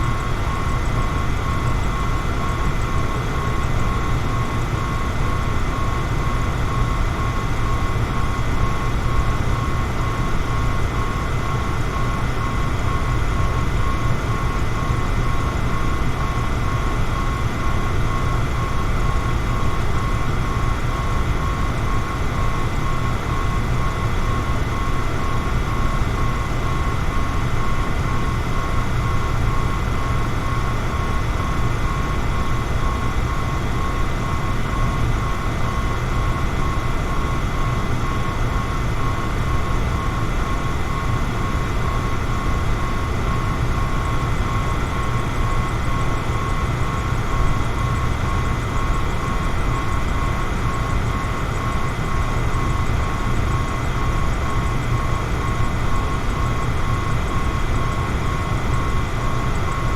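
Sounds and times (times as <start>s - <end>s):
electric fan whooshing hum: 0.0s - 59.9s.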